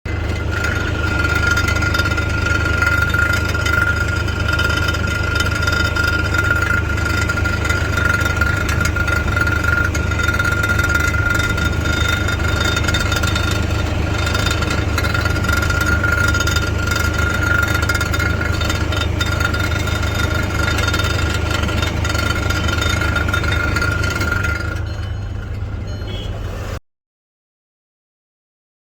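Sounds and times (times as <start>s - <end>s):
car engine idling: 0.0s - 26.8s
exhaust rattle: 0.0s - 26.8s
steady high whine: 0.1s - 26.3s.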